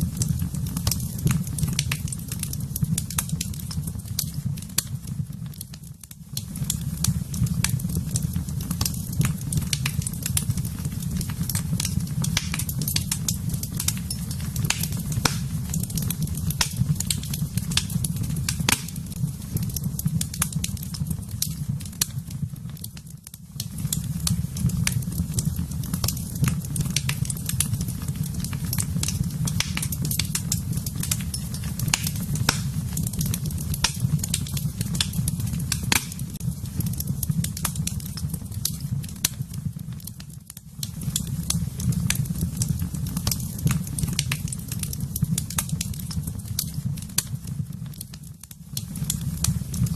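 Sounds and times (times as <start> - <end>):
low fire rumble: 0.0 - 49.9
wood fire crackling and popping: 0.0 - 49.9.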